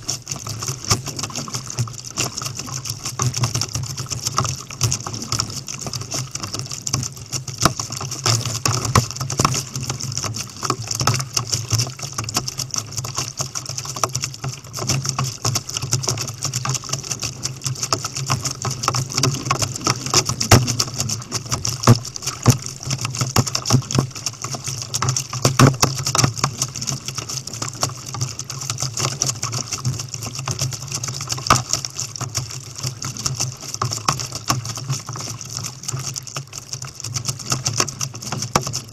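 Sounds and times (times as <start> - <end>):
water splashing against kayak hull: 0.0 - 38.9.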